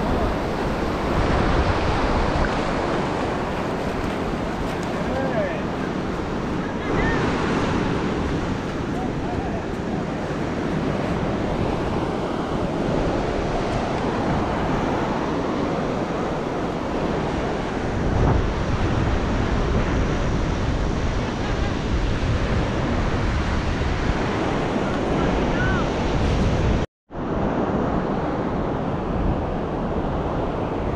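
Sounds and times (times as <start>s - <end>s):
ocean surf breaking on sand: 0.0s - 30.9s
wind buffeting microphone: 0.0s - 30.9s.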